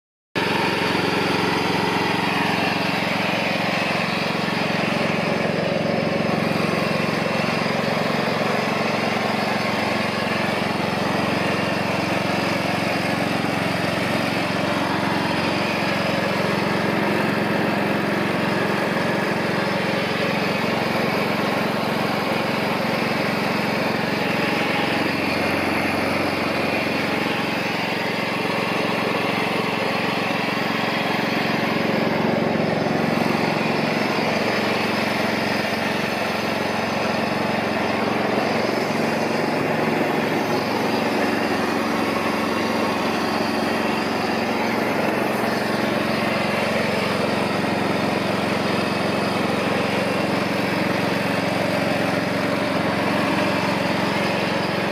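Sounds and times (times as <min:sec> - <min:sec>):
lawnmower engine running: 0:00.4 - 0:54.9.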